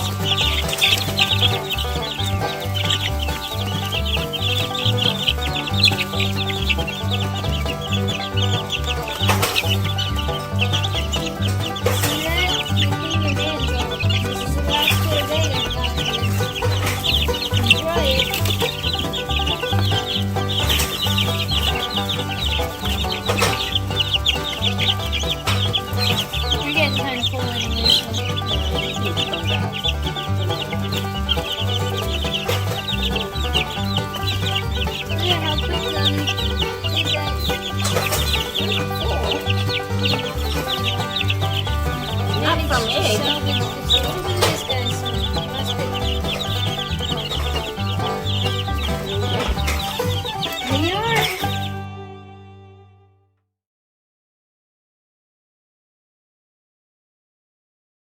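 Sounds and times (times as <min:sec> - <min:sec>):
chicks peeping: 0:00.0 - 0:51.9
background music with bass line: 0:00.0 - 0:53.2.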